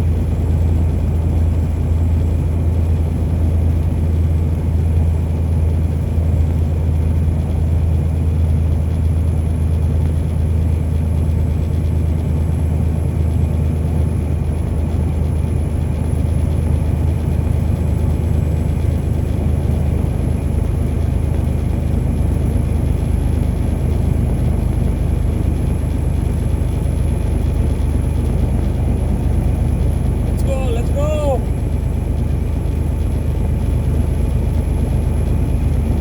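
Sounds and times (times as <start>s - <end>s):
car tyres and engine rumble: 0.0s - 36.0s.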